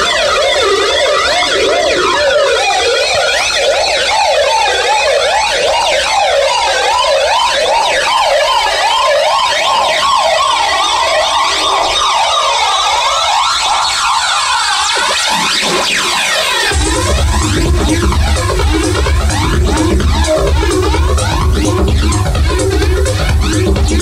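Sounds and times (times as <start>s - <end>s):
siren-like synth wailing: 0.0s - 24.0s.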